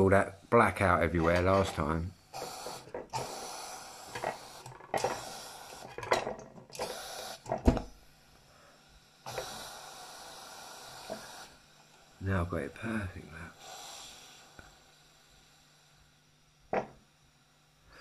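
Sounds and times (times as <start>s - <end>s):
pressure lantern burner hissing: 0.0s - 18.0s.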